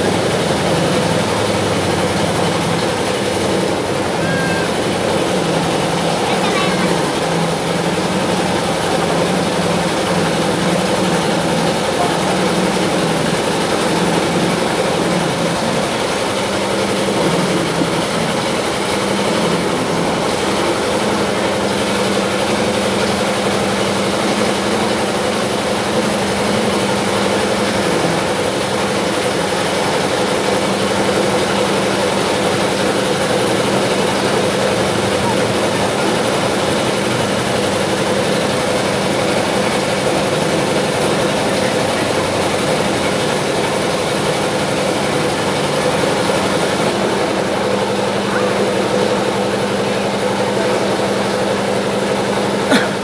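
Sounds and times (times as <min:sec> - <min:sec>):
steady machine drone: 0:00.0 - 0:53.0.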